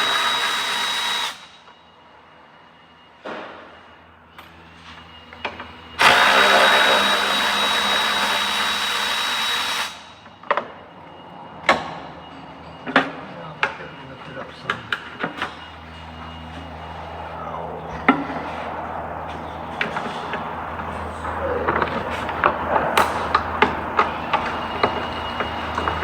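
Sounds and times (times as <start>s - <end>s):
power drill whining: 0.0s - 2.0s, 4.3s - 26.0s.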